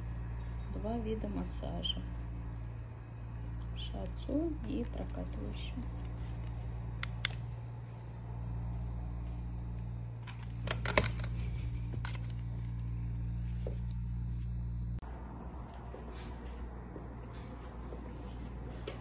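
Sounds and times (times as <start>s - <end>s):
massage chair mechanism humming: 0.0s - 19.0s.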